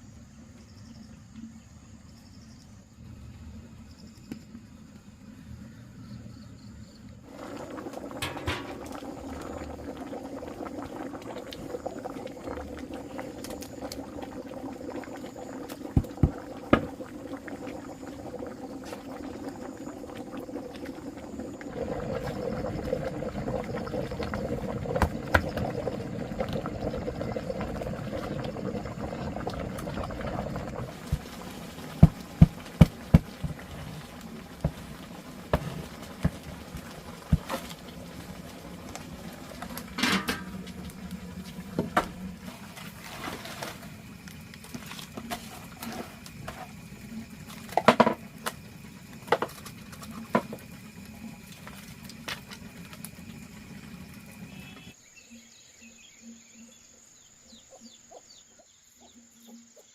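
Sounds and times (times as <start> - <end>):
food cooking in a pot: 6.0 - 58.0.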